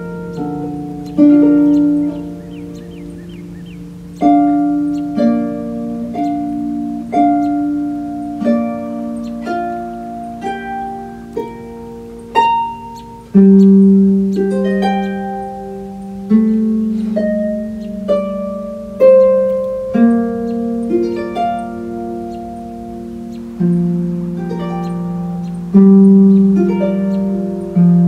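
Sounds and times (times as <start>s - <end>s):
harp plucked notes: 0.0s - 28.0s
held low harp notes: 0.0s - 28.0s.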